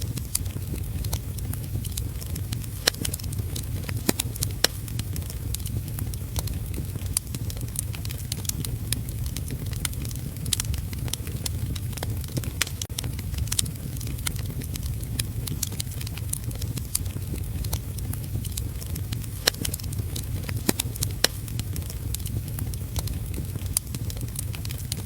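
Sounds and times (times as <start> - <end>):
fire low rumble: 0.0 - 25.0
wood fire crackling and popping: 0.0 - 25.0.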